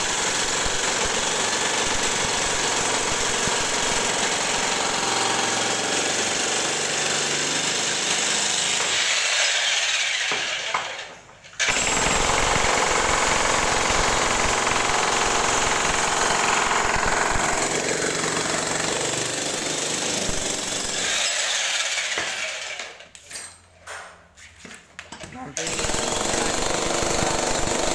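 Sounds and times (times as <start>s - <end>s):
jackhammer rattling: 0.0s - 10.7s, 11.6s - 23.0s, 25.6s - 27.9s.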